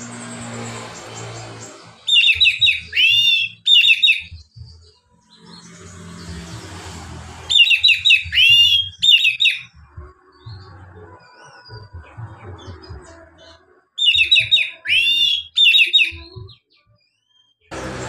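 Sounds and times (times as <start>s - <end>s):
bird singing whistled song: 1.1s - 5.8s, 7.5s - 17.7s.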